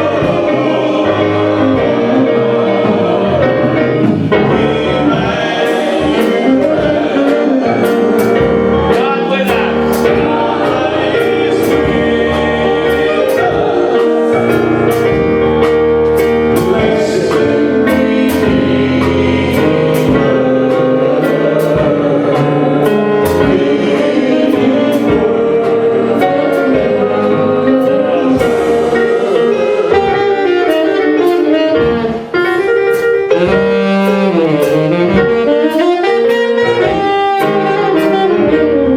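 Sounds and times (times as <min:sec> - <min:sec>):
gospel singing: 0:00.0 - 0:38.9
instrumental accompaniment: 0:00.0 - 0:38.9
steady drum beat: 0:00.0 - 0:38.9.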